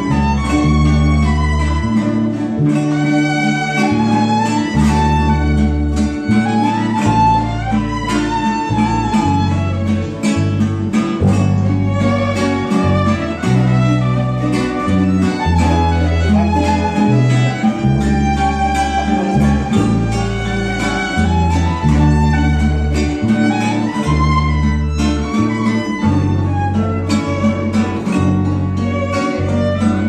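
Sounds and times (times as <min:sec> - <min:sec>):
bass line: 0:00.0 - 0:30.0
guitar: 0:00.0 - 0:30.0
strummed small guitars: 0:00.0 - 0:30.0
violin melody: 0:00.0 - 0:30.0.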